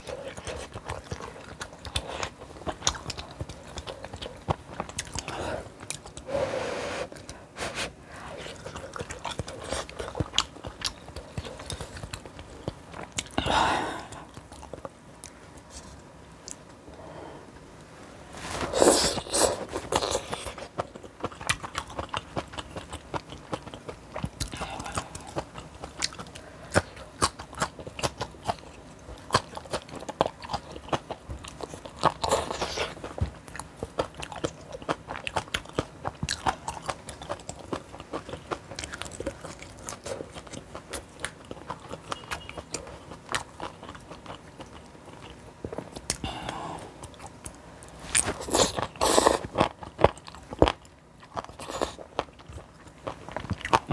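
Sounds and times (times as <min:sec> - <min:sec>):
chewing with crunches: 0:00.0 - 0:06.3, 0:08.2 - 0:16.7, 0:18.5 - 0:53.9.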